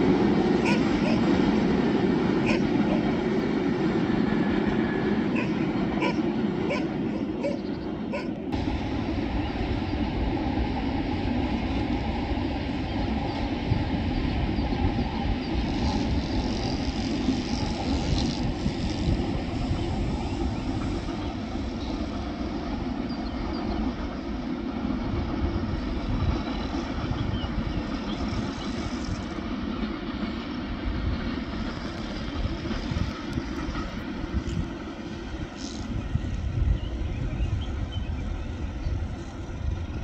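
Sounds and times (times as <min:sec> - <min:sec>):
distant train rumbling past: 0:00.0 - 0:40.0.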